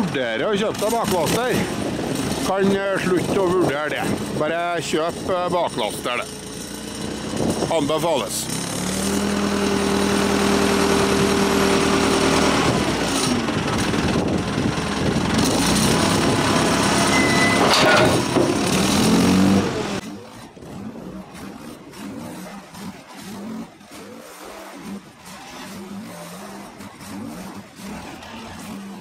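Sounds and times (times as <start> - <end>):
diesel engine under load: 0.0 - 29.0
hydraulic whine: 0.7 - 29.0.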